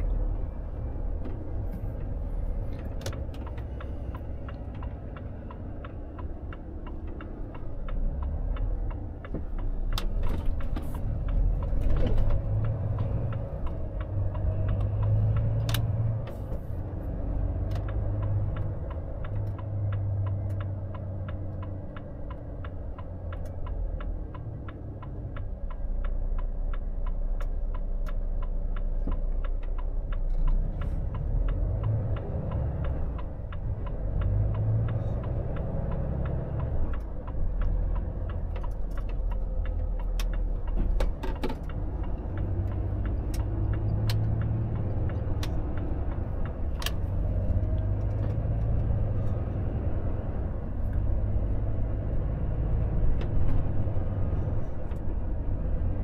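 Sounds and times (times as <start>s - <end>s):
truck engine rumble in cab: 0.0s - 56.0s
turn signal ticking: 0.0s - 56.0s.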